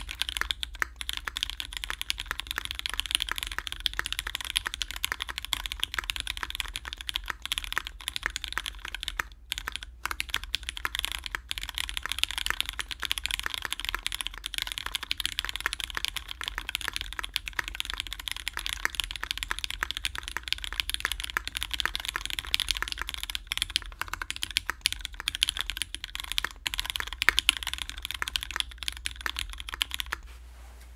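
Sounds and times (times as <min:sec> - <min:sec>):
mechanical keyboard typing: 0:00.0 - 0:30.2.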